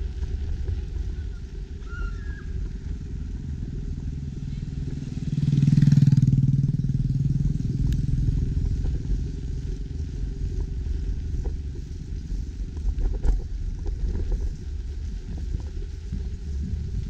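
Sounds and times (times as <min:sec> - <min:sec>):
motorcycle engine rumble: 0:00.0 - 0:17.0
wind noise on microphone: 0:00.0 - 0:17.0.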